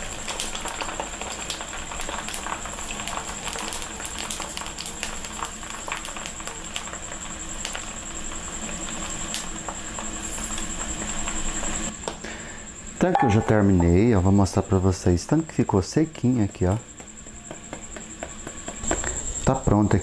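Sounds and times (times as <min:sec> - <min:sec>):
pork skin sizzling and crackling: 0:00.0 - 0:20.0.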